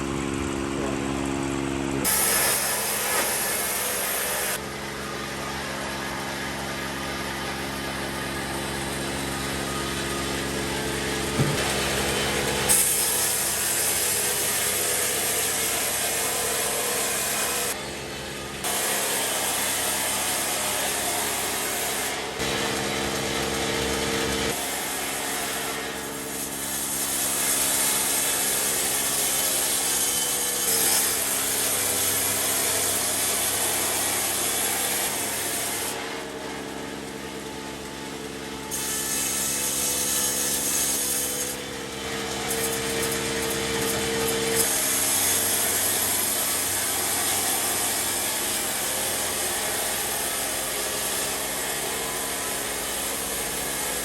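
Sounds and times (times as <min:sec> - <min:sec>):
saw cutting through wood: 0:00.0 - 0:54.0.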